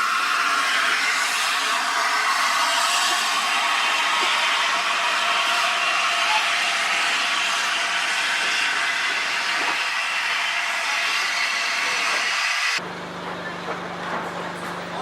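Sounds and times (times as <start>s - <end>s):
steam locomotive hissing steam: 0.0s - 12.8s.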